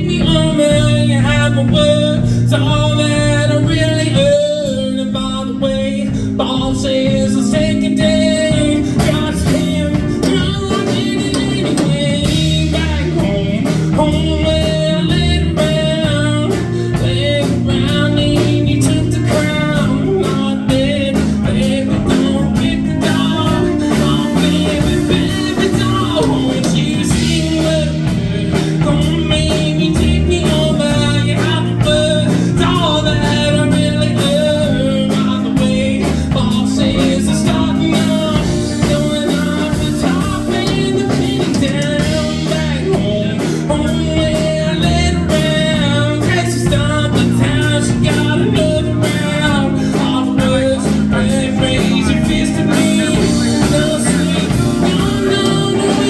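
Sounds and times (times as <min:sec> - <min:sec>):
guitar accompaniment: 0:00.0 - 0:56.0
person singing blues-country song: 0:00.0 - 0:56.0.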